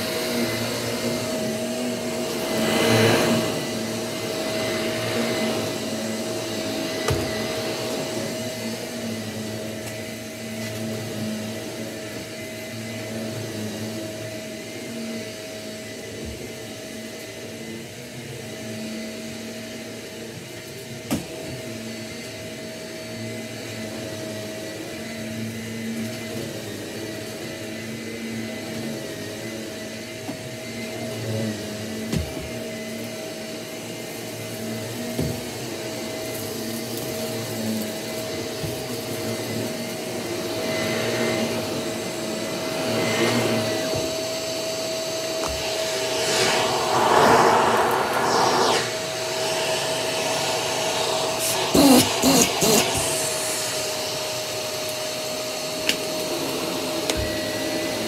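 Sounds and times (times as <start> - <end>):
vacuum cleaner running on carpet: 0.0 - 58.0.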